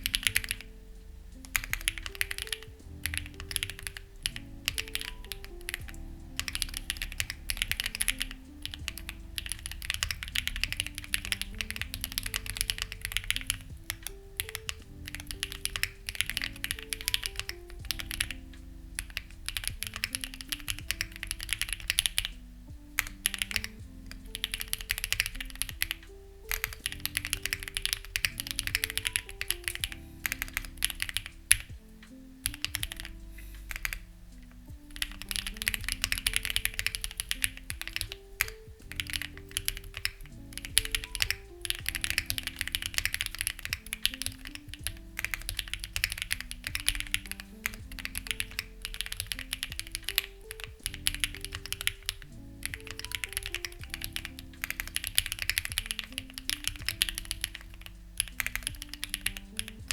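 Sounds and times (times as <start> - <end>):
mechanical keyboard typing: 0.0 - 22.4, 23.0 - 31.8, 32.4 - 34.0, 34.8 - 59.9
soft background music: 0.0 - 59.9.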